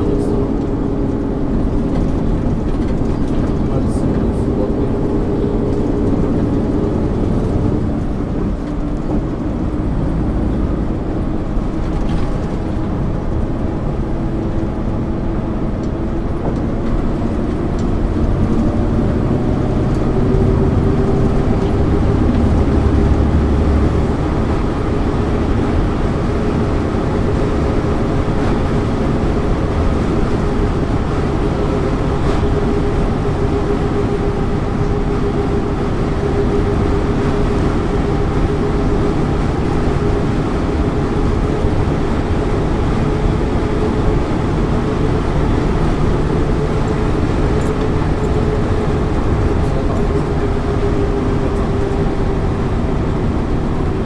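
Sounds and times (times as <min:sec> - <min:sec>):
bus diesel engine running: 0:00.0 - 0:54.0
road and tyre noise: 0:00.0 - 0:54.0.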